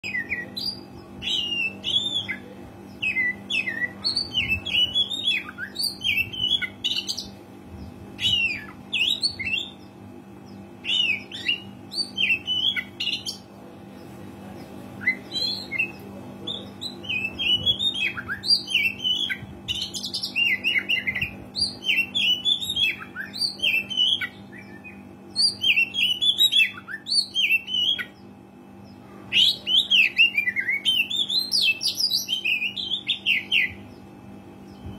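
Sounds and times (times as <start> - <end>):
songbird singing fast phrases: 0.0 - 28.2
faint low hum: 0.0 - 34.9.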